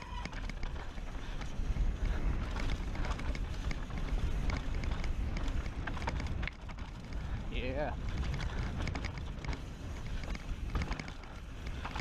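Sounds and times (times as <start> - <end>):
bike rattling and knocking: 0.0 - 12.0
wind rumbling on microphone: 0.0 - 12.0.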